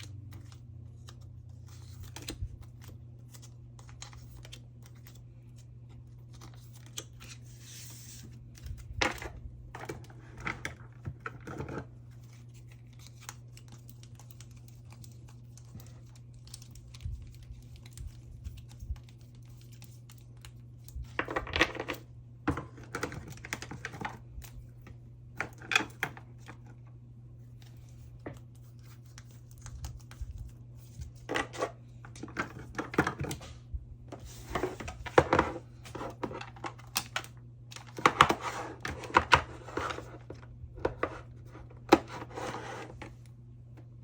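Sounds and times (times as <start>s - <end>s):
plastic sleeves rustling: 0.0s - 43.3s
low steady hum: 0.0s - 44.0s.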